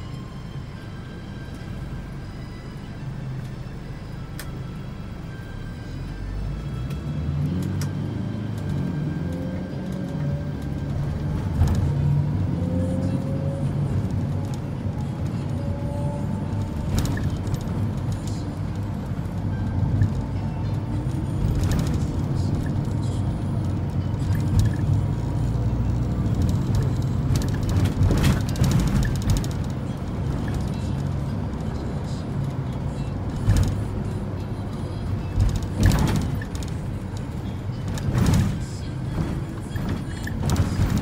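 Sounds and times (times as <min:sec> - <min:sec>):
minibus engine and road rumble: 0:00.0 - 0:41.0.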